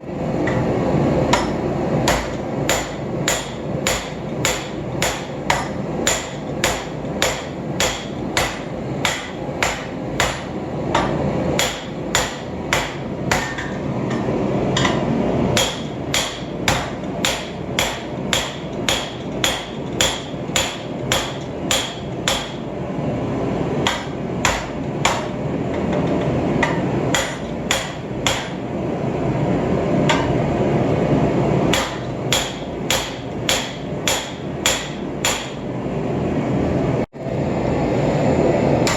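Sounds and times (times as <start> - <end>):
hammer striking hot steel: 0.3 - 22.8, 23.8 - 28.7, 30.1 - 30.4, 31.7 - 35.7.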